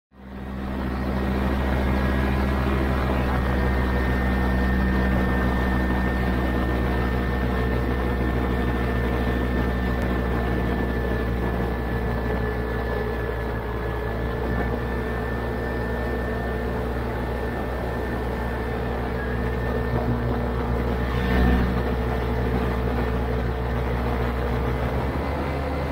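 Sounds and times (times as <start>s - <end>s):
paramotor engine and propeller: 0.1s - 25.9s.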